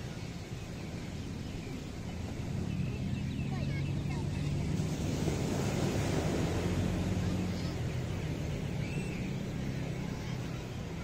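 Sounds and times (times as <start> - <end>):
surf washing: 0.0 - 11.0.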